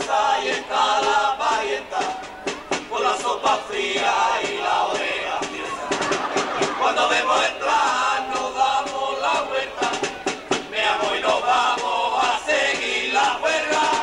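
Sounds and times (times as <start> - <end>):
men singing in unison: 0.0 - 14.0
sharp drum beats: 0.0 - 14.0.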